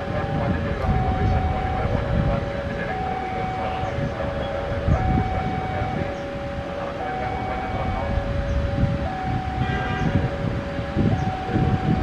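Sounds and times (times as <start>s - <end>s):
diesel locomotive rumble: 0.0s - 12.0s
level crossing alarm two tones: 0.0s - 12.0s.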